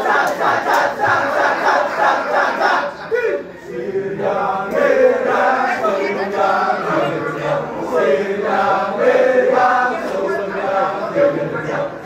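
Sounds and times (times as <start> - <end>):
men chanting in a circle: 0.0 - 12.0.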